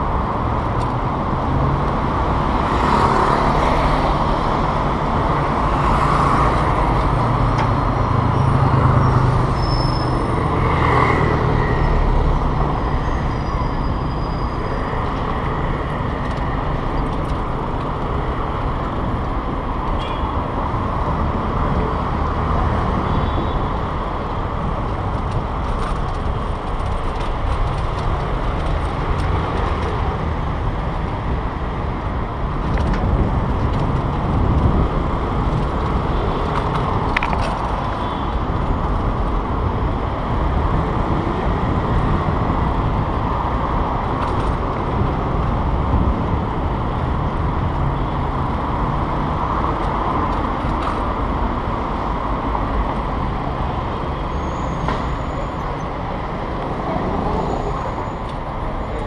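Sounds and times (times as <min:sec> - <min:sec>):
wind and tyre noise: 0:00.0 - 0:59.0.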